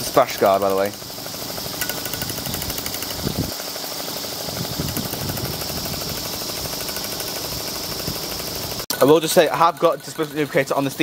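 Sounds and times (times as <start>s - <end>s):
steam engine exhaust beat: 0.0s - 11.0s
steam hiss: 0.0s - 11.0s.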